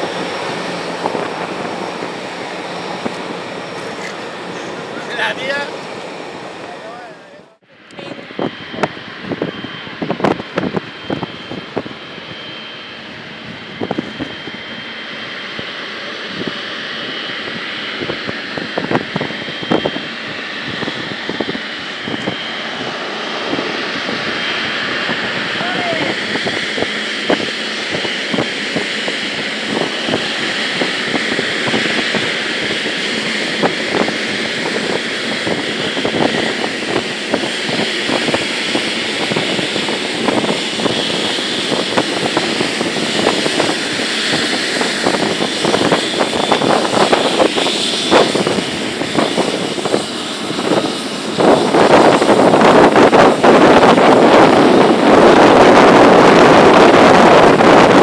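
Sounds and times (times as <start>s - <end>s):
jet engines at taxi power: 0.0s - 58.0s
wind buffeting microphone: 0.0s - 58.0s.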